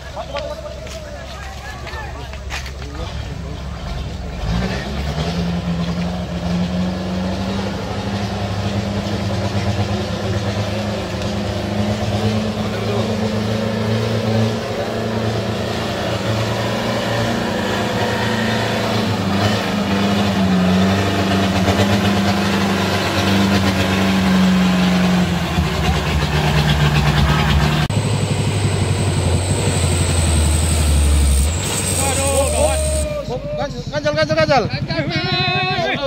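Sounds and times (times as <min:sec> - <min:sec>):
heavy truck engine under load: 0:00.0 - 0:33.9.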